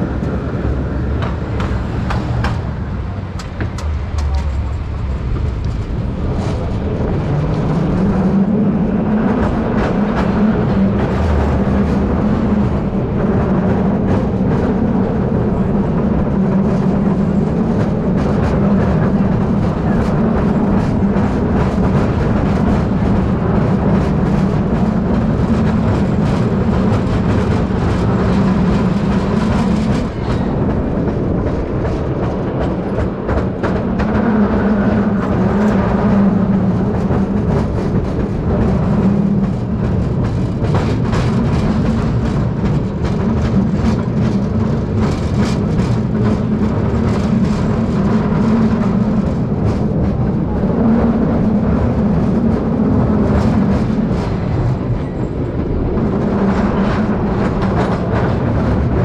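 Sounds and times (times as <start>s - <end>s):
streetcar motor hum: 0.0s - 59.0s
streetcar rumbling ride: 0.0s - 59.0s
wheels clicking over rails: 0.0s - 59.0s.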